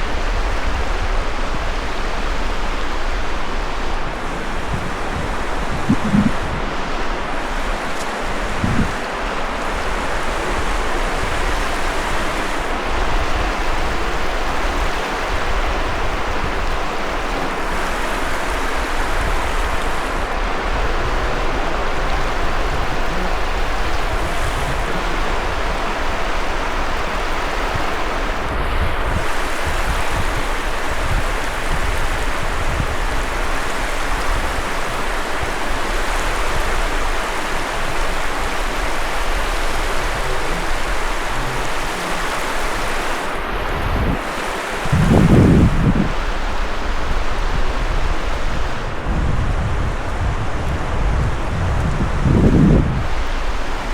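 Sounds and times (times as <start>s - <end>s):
waves breaking on beach: 0.0s - 53.9s
wind on microphone: 0.0s - 53.9s.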